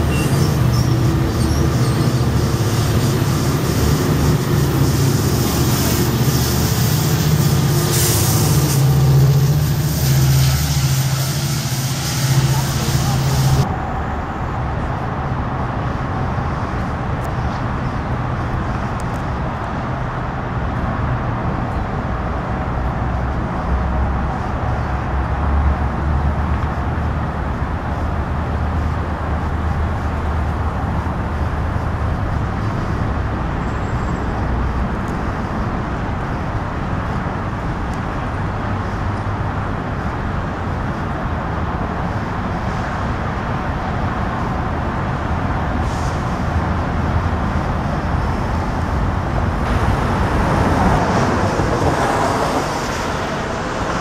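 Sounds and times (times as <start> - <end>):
diesel train droning: 0.0 - 19.2, 21.4 - 54.0
freeway traffic noise: 0.0 - 54.0.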